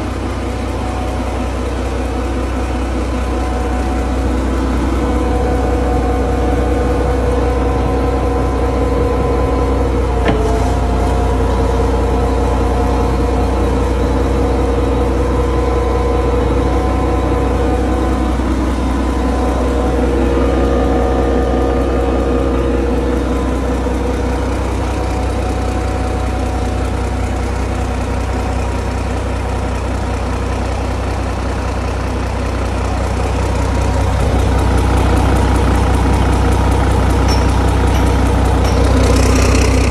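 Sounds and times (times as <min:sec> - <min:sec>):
diesel engine idling: 0:00.0 - 0:39.9
steady engine whine: 0:00.0 - 0:39.9.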